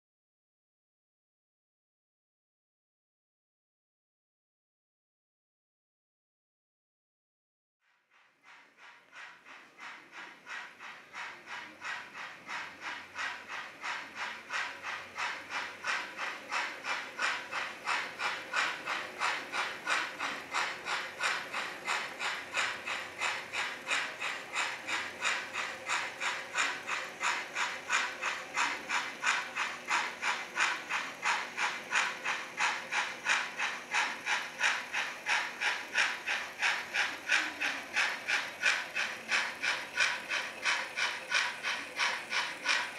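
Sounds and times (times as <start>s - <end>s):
model steam locomotive chuffing: 7.9s - 42.9s.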